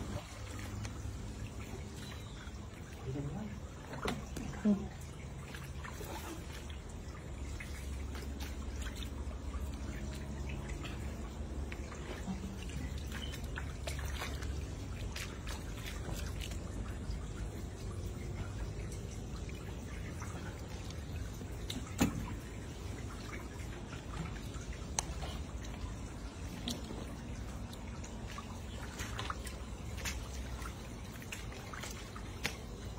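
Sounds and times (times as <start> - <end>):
splashes of wading in boots: 0.0 - 32.9
water dripping and trickling: 0.0 - 32.9.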